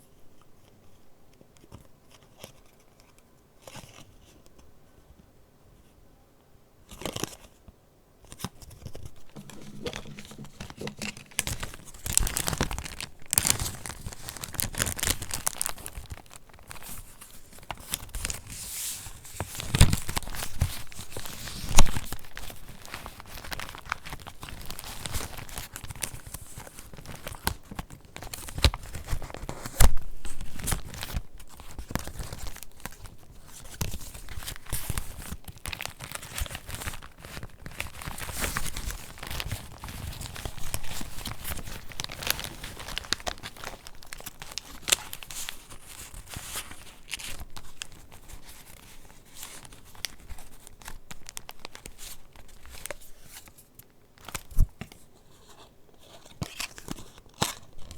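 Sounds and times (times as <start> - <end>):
paper pages rustling and crinkling: 8.2 - 57.9.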